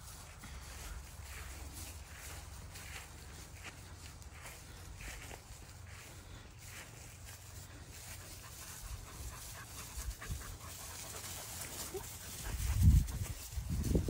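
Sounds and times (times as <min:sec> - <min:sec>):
paws rustling through grass: 0:00.0 - 0:14.0
puppies panting: 0:00.1 - 0:14.0.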